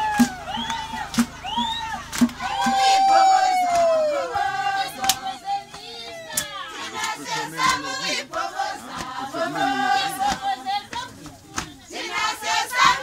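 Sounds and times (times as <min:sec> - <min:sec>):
group of people singing and chanting: 0:00.0 - 0:13.0
people shouting: 0:00.0 - 0:13.0.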